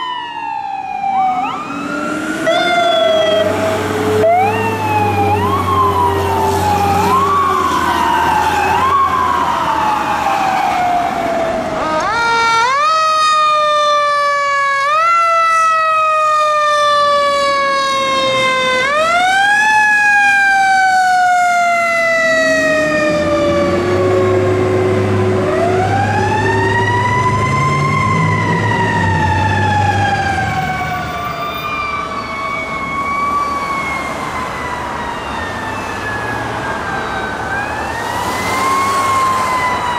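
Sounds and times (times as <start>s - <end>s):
fire truck sirens wailing: 0.0s - 39.9s.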